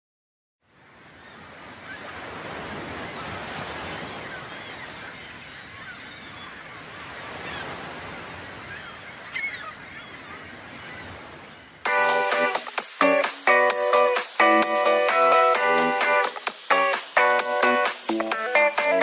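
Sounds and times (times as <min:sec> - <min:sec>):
waves washing: 0:01.0 - 0:19.0
birds calling: 0:02.9 - 0:19.0.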